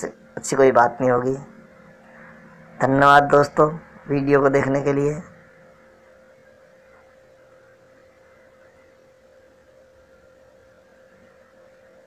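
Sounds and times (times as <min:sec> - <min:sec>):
faint electrical hum: 0:00.0 - 0:12.0
low background hiss: 0:00.0 - 0:12.0.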